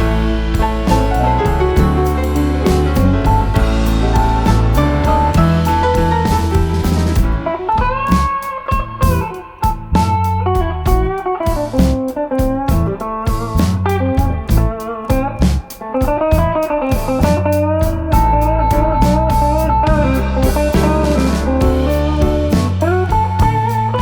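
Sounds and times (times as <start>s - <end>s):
bass guitar: 0.0s - 24.0s
blues electric guitar melody: 0.0s - 24.0s
steady drum beat: 0.0s - 24.0s.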